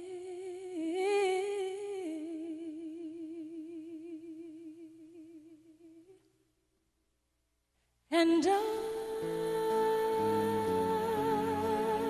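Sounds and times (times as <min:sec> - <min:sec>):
woman singing unaccompanied: 0:00.0 - 0:06.2, 0:08.1 - 0:12.0.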